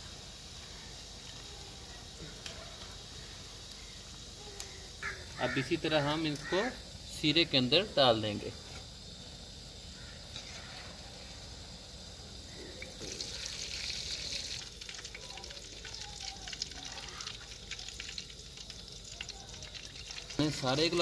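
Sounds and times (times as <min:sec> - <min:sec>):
faint hiss: 0:00.0 - 0:21.0
food deep-frying in oil: 0:00.0 - 0:21.0.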